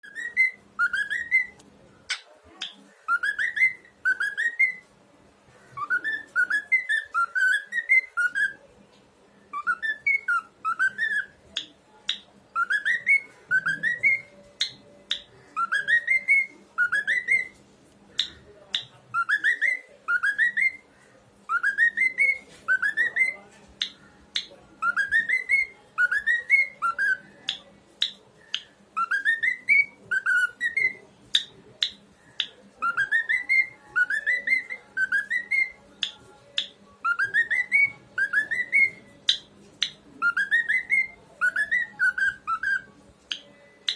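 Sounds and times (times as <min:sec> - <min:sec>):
cockatiel whistling a tune: 0:00.0 - 0:01.6, 0:03.1 - 0:04.9, 0:05.8 - 0:08.6, 0:09.5 - 0:17.6, 0:18.2 - 0:20.8, 0:21.5 - 0:35.8, 0:36.6 - 0:43.9.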